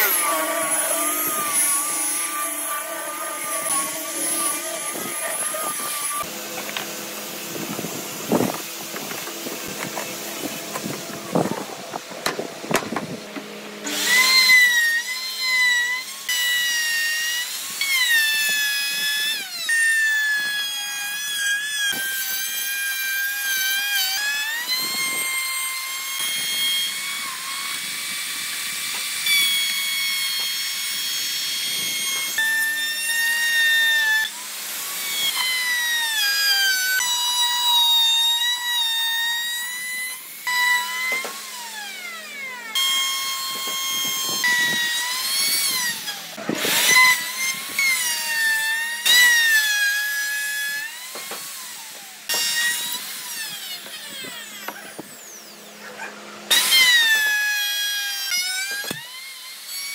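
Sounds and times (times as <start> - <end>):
power tool motor whining: 0.0 - 59.9.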